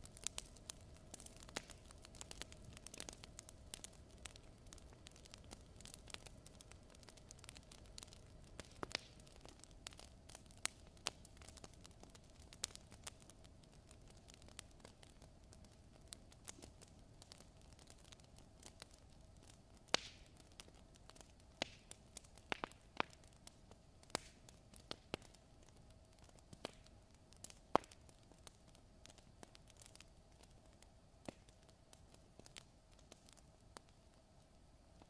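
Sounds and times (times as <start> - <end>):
faint hiss and hum: 0.0 - 35.0
wood fire crackling: 0.0 - 35.0.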